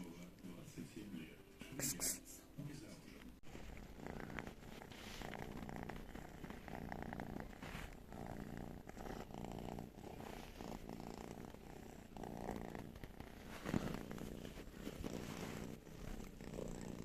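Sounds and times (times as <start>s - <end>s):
cat purring: 2.8s - 17.0s.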